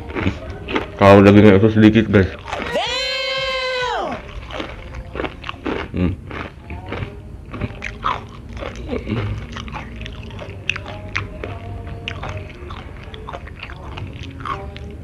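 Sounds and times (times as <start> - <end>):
crunchy chewing of fried chicken: 0.0 - 3.2, 4.1 - 15.0.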